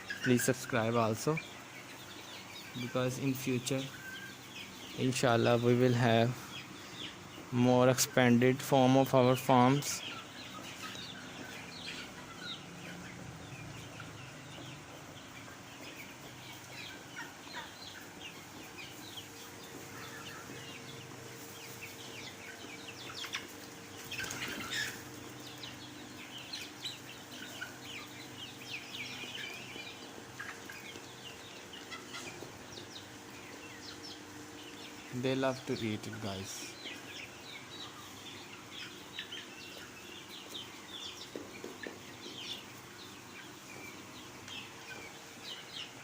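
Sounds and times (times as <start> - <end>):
chicks peeping and clucking: 0.0 - 46.0.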